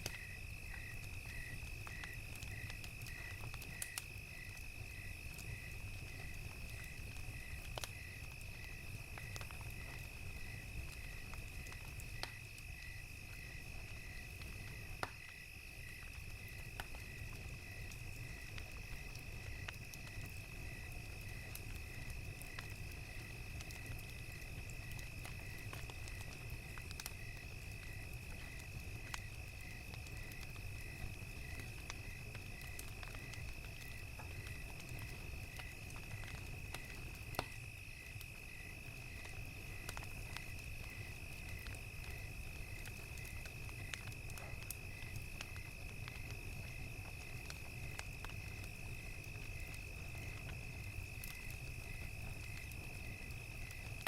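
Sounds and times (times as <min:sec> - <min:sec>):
crickets chirping: 0:00.0 - 0:54.0
fire crackling: 0:00.0 - 0:54.0.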